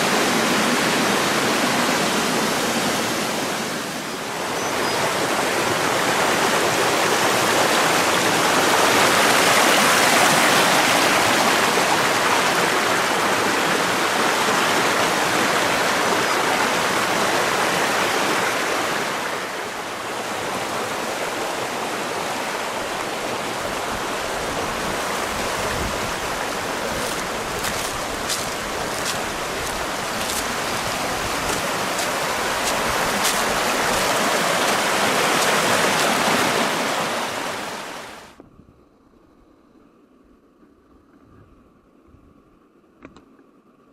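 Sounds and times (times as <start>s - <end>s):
waterfall rushing: 0.0s - 38.3s.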